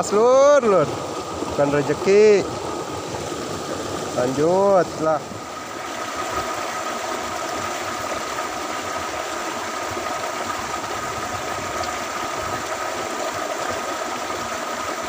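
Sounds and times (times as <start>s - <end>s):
waterfall pouring over rocks: 0.0s - 15.0s.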